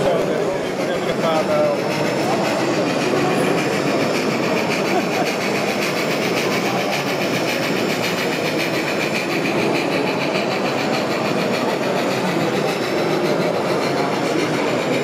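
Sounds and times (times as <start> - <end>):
faint voices: 0.0 - 15.0
model train running: 0.0 - 15.0.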